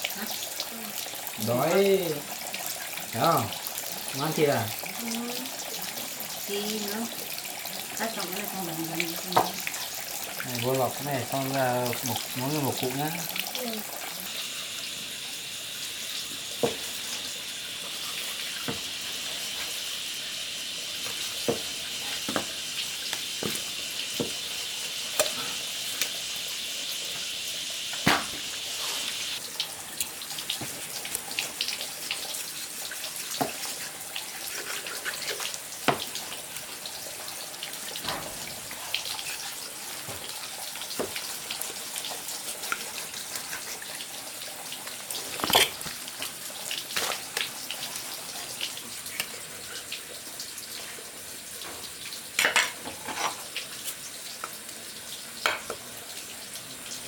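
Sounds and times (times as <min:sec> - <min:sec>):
water dripping: 0:00.0 - 0:51.0
water running from a tap: 0:00.0 - 0:57.0.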